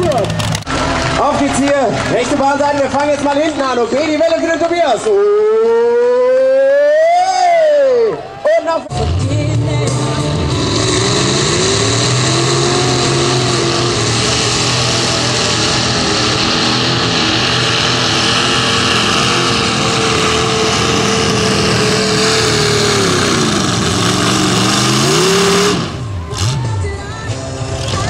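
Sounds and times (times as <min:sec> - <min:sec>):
tractor engine at full throttle: 0:00.0 - 0:06.5, 0:09.6 - 0:28.0.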